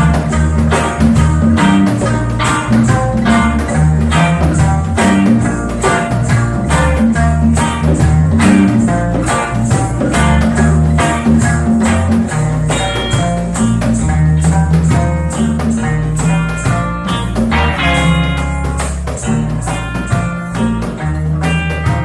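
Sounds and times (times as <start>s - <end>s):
live reggae band music: 0.0s - 22.0s.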